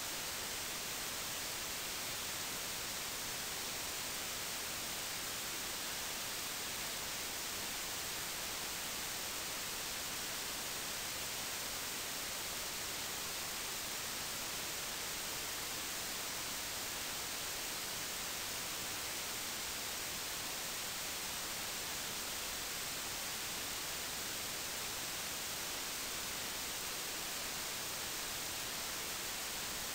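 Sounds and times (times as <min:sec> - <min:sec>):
recording hiss: 0:00.0 - 0:29.9.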